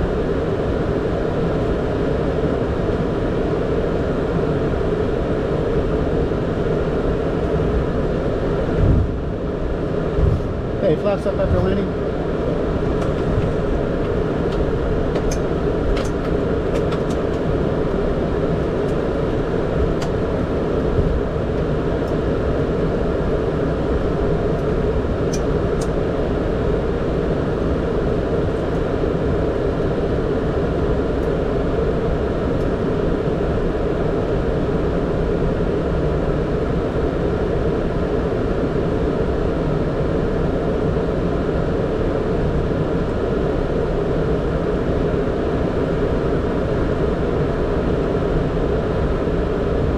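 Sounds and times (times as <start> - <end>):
airflow and engines rushing: 0.0 - 49.9.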